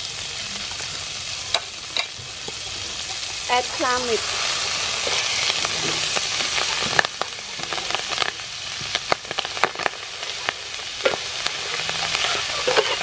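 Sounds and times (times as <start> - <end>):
clams sizzling in oil: 0.0 - 13.0.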